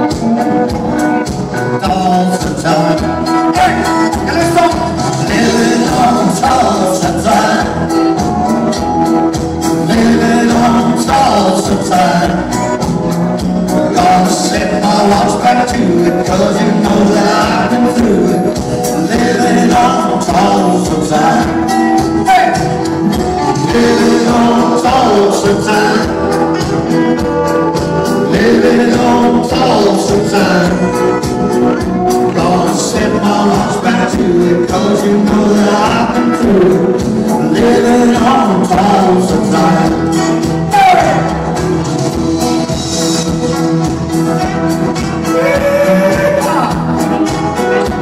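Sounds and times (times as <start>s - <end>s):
man singing into a microphone: 0.0s - 8.9s, 9.6s - 27.2s, 27.8s - 41.7s, 44.3s - 48.0s
live music over loudspeakers: 0.0s - 48.0s.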